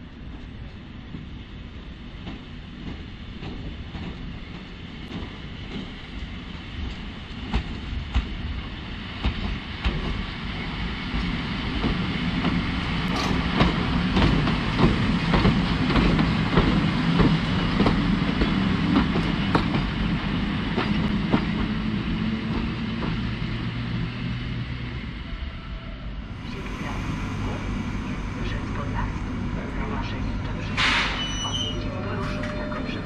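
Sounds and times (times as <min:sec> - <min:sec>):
locomotive low hum: 0:00.0 - 0:33.0.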